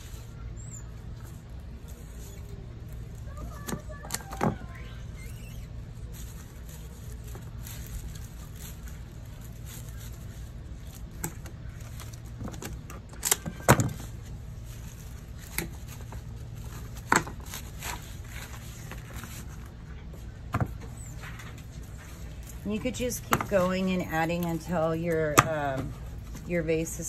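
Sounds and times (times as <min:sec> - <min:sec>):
fern fronds rustling: 0:00.0 - 0:27.0
steady low hum: 0:00.0 - 0:27.0.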